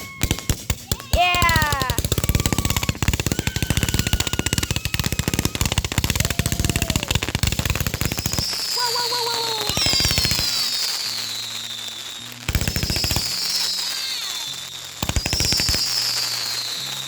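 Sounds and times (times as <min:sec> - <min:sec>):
firework crackling pops: 0:00.0 - 0:17.0
firework whistling: 0:00.0 - 0:17.0.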